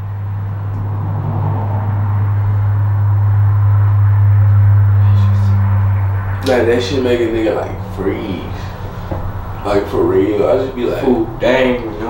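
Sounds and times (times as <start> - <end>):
higher tone: 0.0 - 12.0.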